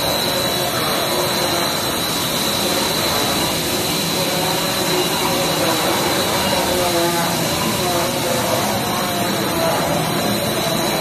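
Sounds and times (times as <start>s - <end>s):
machinery noise with high whine: 0.0s - 11.0s.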